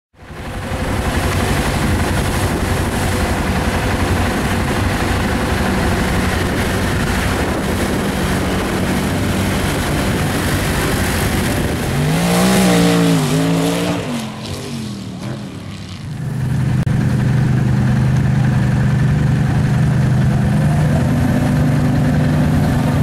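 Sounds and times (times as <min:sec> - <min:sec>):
atv engine at high revs: 0:00.3 - 0:23.0
second engine revving: 0:00.3 - 0:23.0.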